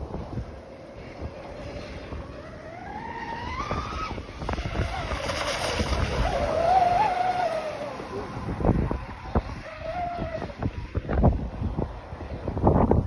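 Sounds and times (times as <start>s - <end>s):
model boat motor whine: 0.0s - 13.0s
wind rumbling on microphone: 0.0s - 13.0s.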